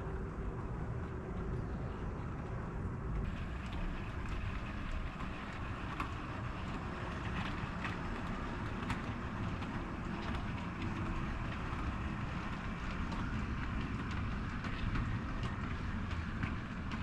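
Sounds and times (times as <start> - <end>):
model train rumbling on track: 2.7 - 17.0.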